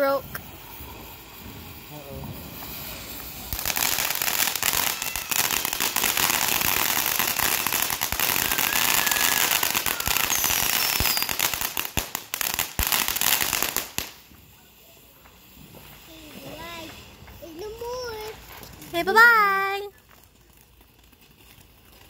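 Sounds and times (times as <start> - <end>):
firework pops: 0.0 - 19.0
firework fountain hissing: 0.0 - 22.0.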